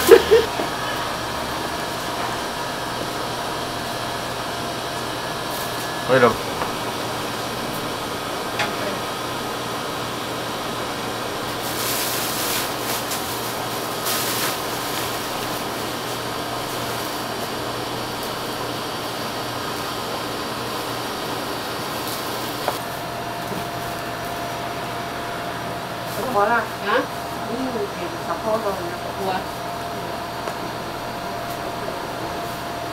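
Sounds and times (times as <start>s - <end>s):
mechanical whirring hum: 0.0s - 32.9s.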